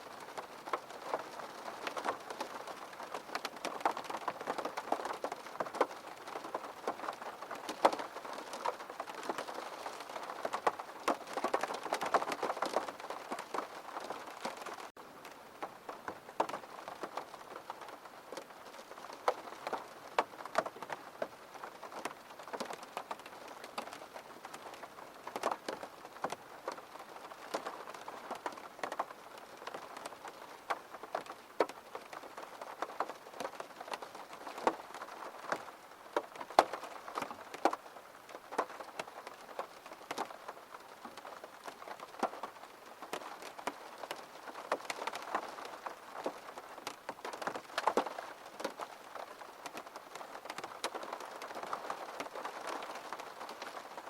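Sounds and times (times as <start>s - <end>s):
close raindrops striking: 0.0s - 54.0s
rain pattering: 0.0s - 54.0s.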